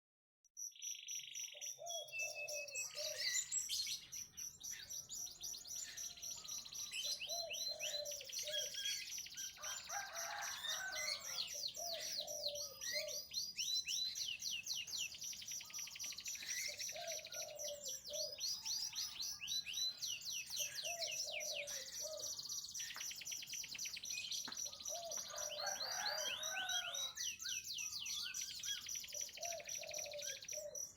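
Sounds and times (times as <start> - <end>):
canary singing trills: 0.6 - 30.9.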